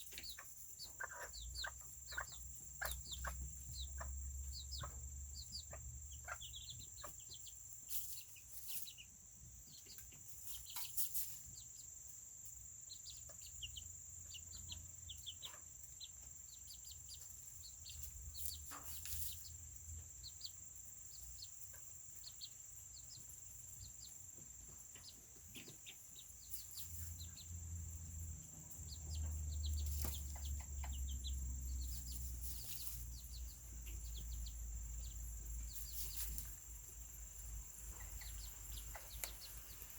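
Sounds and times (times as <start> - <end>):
chickens clucking and peeping: 0.0 - 39.9.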